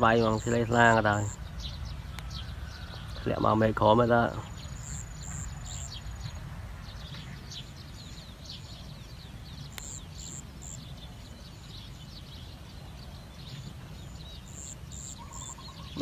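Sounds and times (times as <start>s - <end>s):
steady low rumble: 0.0s - 15.9s
small birds chirping: 0.0s - 16.0s.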